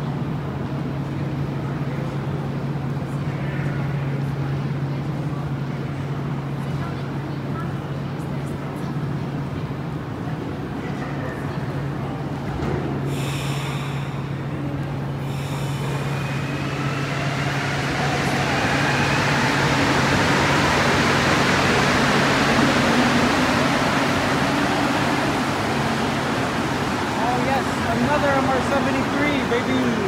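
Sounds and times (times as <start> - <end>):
metro train running: 0.0 - 30.0.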